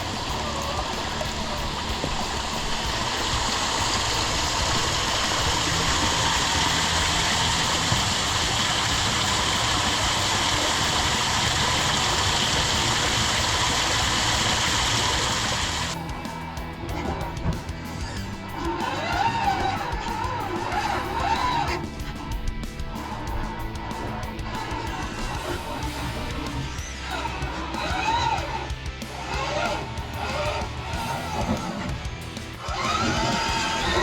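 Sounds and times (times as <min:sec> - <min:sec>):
background music: 0:00.0 - 0:34.0
steady rushing noise: 0:00.0 - 0:34.0.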